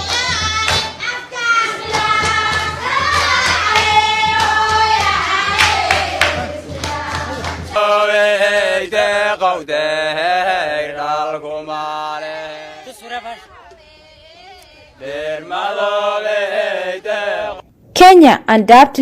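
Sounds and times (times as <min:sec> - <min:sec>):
group singing: 0:00.0 - 0:17.6.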